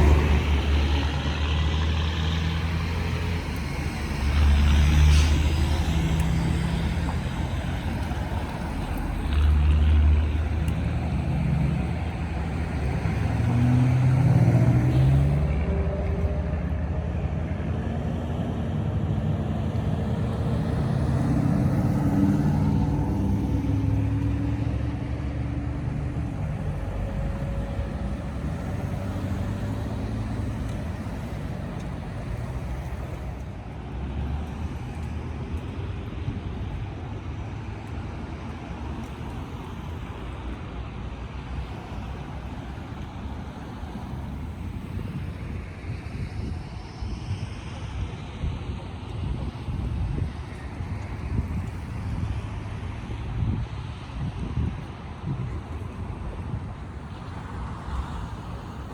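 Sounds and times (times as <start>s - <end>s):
vehicle engine rumbling: 0.0s - 47.7s
low traffic noise: 0.0s - 58.9s.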